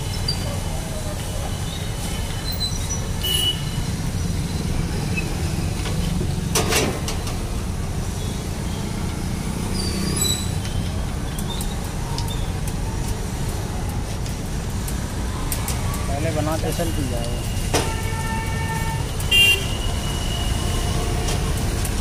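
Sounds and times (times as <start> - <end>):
street noise rumble: 0.0 - 22.0.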